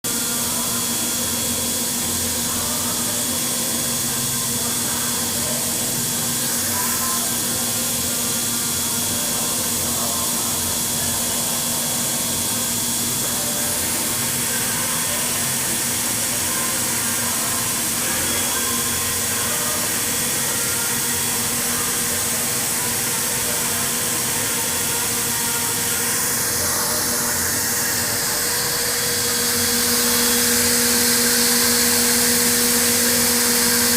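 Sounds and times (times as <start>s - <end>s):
high whine: 0.1s - 33.9s
milling machine spindle hum: 0.1s - 33.9s.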